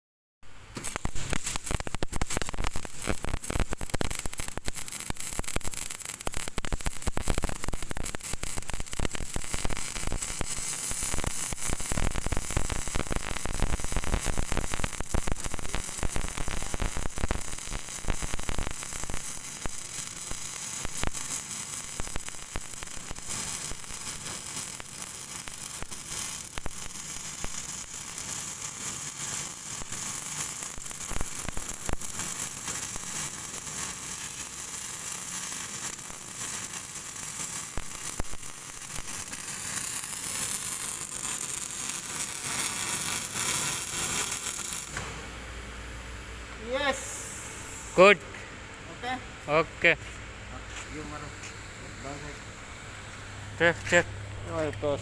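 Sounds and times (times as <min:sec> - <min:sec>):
welding arc crackling: 0:00.5 - 0:48.2, 0:50.6 - 0:55.0.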